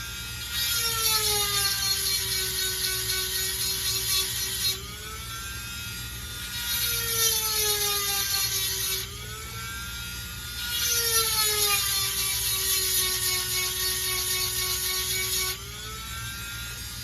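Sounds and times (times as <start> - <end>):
rotary tool motor whine: 0.0 - 17.0.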